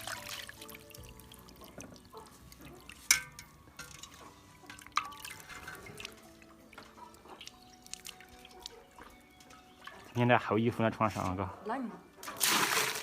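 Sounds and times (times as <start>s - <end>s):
water dripping and splashing: 0.0s - 10.6s, 12.2s - 13.0s.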